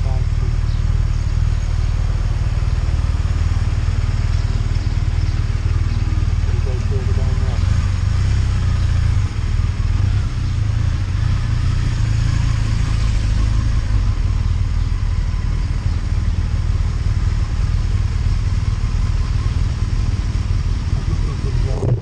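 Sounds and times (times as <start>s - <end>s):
motorcycle engine low drone: 0.0s - 22.0s.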